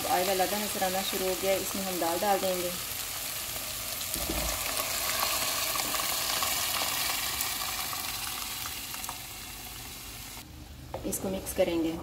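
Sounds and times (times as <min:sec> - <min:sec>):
oil sizzling in a pan: 0:00.0 - 0:10.4.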